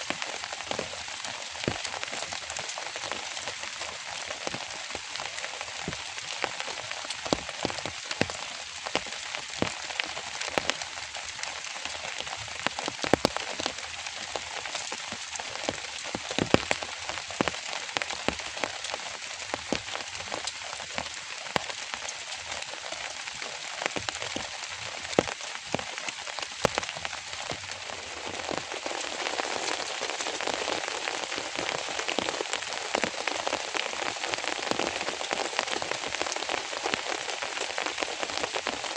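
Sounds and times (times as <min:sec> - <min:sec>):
rain with drops ticking: 0:00.0 - 0:38.9.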